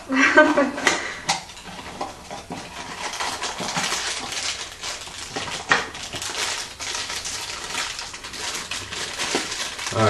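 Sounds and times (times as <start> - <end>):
foil wrapper crinkling: 1.4 - 10.0
sharp foil crackle: 1.5 - 10.0.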